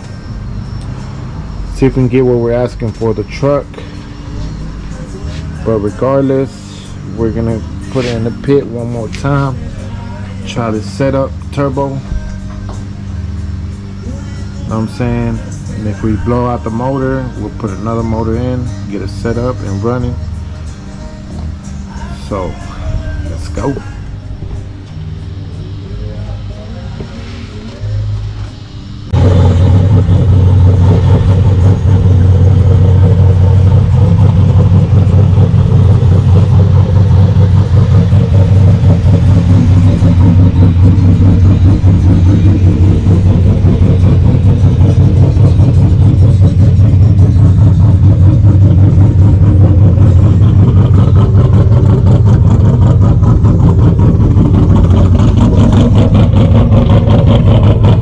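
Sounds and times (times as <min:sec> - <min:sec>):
truck engine running loudly: 0:00.0 - 0:58.0.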